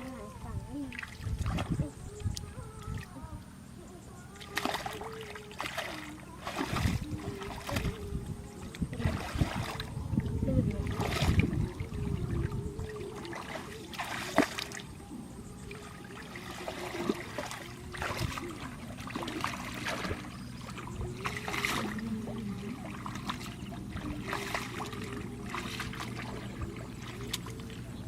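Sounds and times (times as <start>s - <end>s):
low hum: 0.0s - 28.0s
water trickling and splashing: 0.0s - 28.0s.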